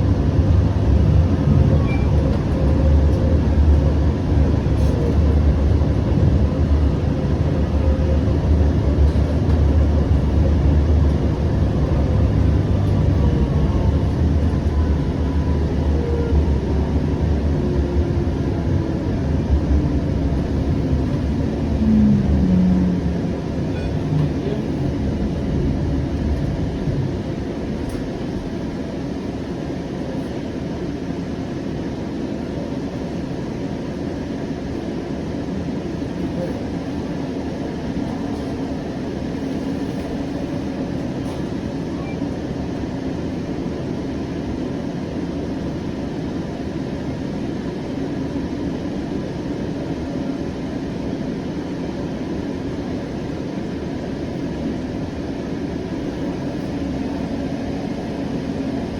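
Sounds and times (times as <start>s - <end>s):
wheels rumbling on rail: 0.0s - 58.9s.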